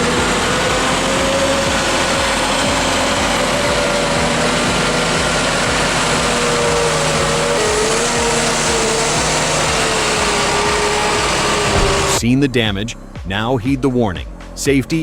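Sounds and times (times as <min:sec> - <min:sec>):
heavy vehicle engine running: 0:00.0 - 0:12.3.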